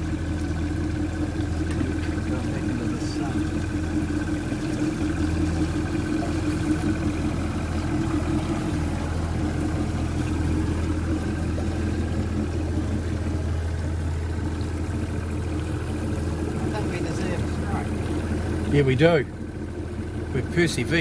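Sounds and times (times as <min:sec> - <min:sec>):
outboard motor droning: 0:00.0 - 0:21.0.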